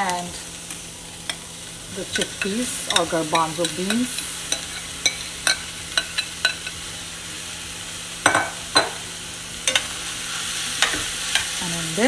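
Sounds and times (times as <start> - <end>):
ghee sizzling in pan: 0.0 - 12.0.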